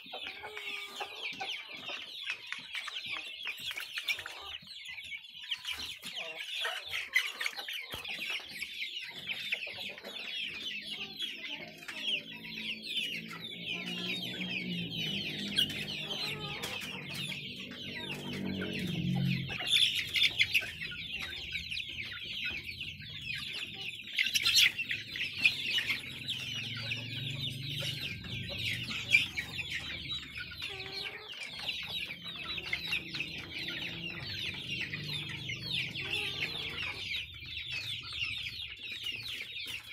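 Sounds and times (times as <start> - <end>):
chicks peeping and chirping: 0.0 - 39.9
drawn-out chicken calls: 0.0 - 39.9.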